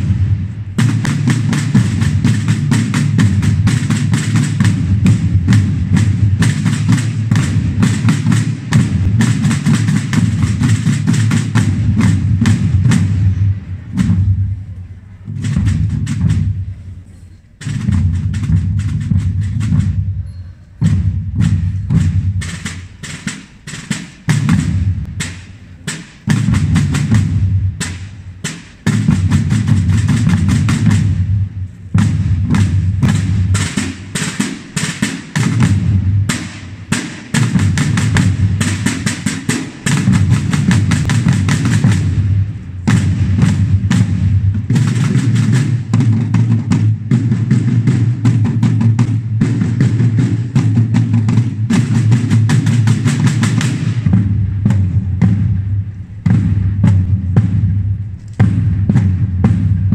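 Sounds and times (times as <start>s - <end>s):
side drums playing rapid strokes: 0.0s - 59.9s.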